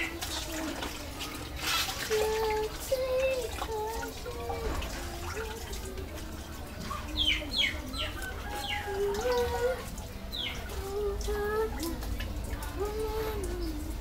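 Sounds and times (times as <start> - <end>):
hands washing dishes in water: 0.0 - 14.0.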